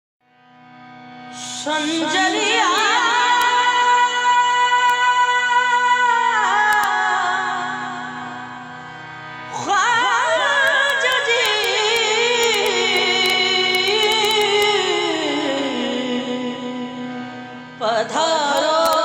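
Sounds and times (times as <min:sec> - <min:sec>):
steady held drone: 0:01.0 - 0:19.0
person singing ornamented line: 0:01.4 - 0:08.4, 0:09.5 - 0:17.1, 0:17.8 - 0:19.0.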